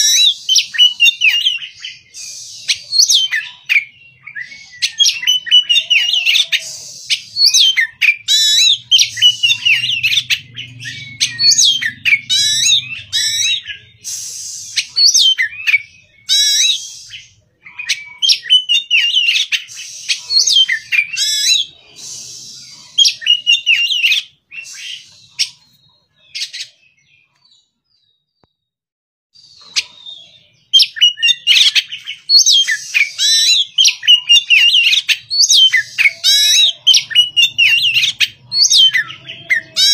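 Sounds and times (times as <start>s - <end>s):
bird singing whistled phrases: 0.0s - 27.2s, 29.4s - 39.9s.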